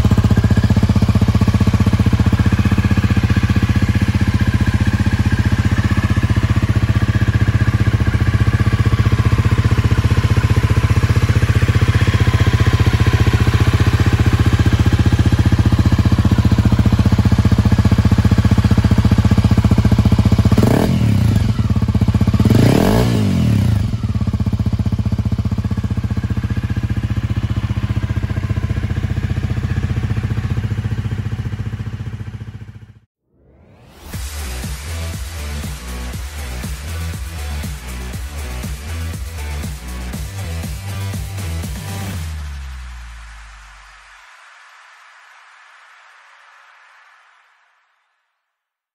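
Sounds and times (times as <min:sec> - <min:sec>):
motorcycle engine idling: 0:00.0 - 0:33.1, 0:34.6 - 0:42.4
engine revving: 0:00.0 - 0:43.3.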